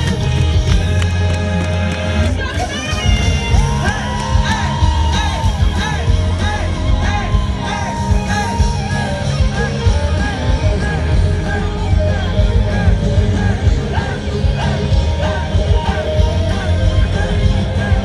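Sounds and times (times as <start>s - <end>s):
electric guitar: 0.0s - 18.0s
man singing: 0.0s - 18.0s
steady drum beat: 0.0s - 18.0s.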